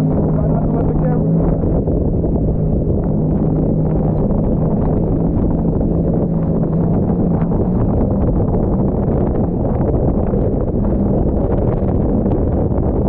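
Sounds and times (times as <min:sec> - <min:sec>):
jet ski engine running: 0:00.0 - 0:13.0
wind buffeting microphone: 0:00.0 - 0:13.0.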